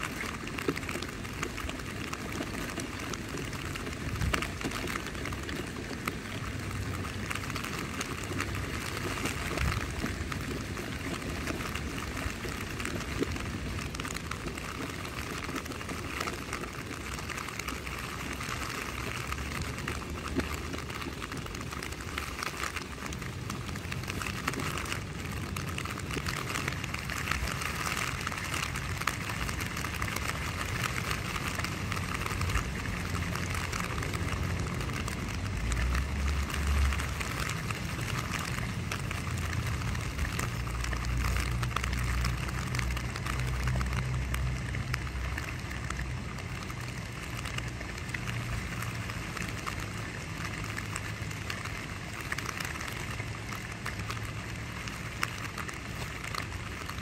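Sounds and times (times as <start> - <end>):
rain pattering on tent fabric: 0.0 - 57.0.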